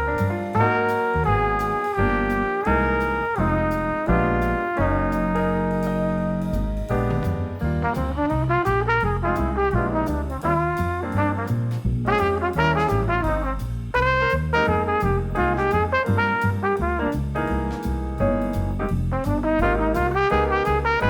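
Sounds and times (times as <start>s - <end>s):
brass background music: 0.0s - 21.0s.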